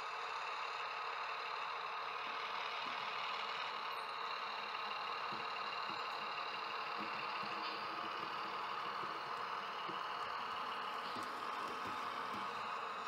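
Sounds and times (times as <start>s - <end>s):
model railway whirring hum: 0.0s - 13.0s.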